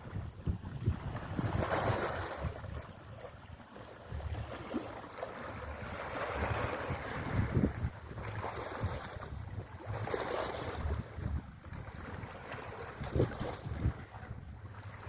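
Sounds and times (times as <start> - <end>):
wind buffeting microphone: 0.0 - 3.0, 5.5 - 15.0
sea waves washing in: 0.0 - 15.0.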